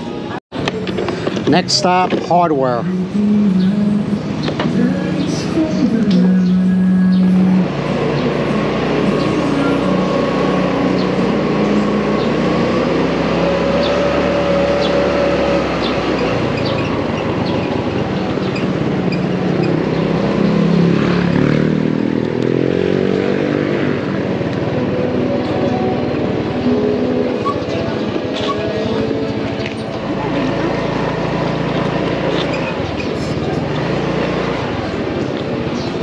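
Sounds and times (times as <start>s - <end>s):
motorcycle engine running: 2.8s - 36.0s.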